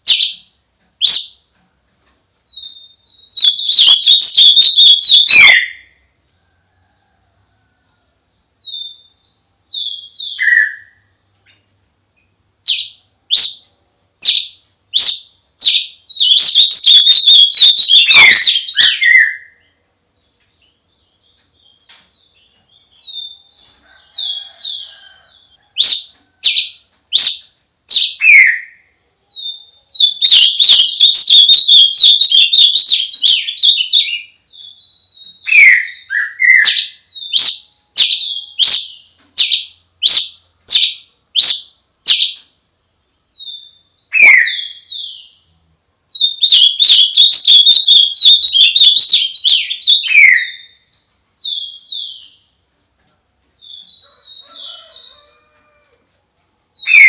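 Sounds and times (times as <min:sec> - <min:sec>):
songbird chirping and trilling: 0:00.0 - 0:52.6, 0:53.5 - 0:57.0.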